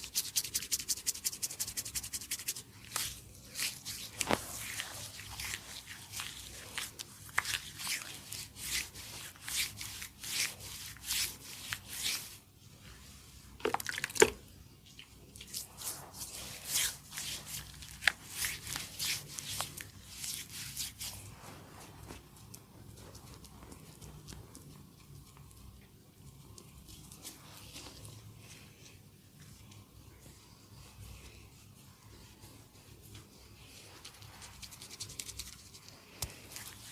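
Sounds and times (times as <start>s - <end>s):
hands rubbing skin: 0.0s - 14.2s, 14.9s - 36.9s.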